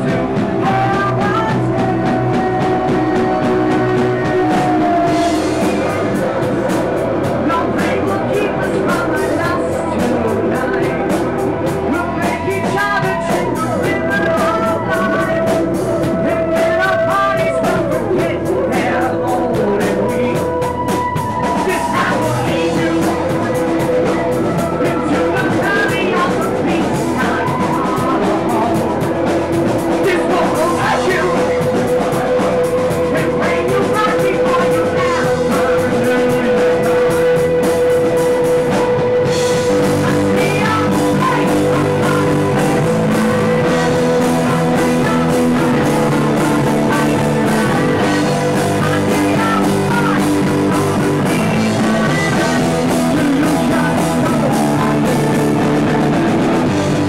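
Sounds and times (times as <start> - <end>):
rock band music: 0.0 - 57.0
steady drum beat: 0.0 - 57.0.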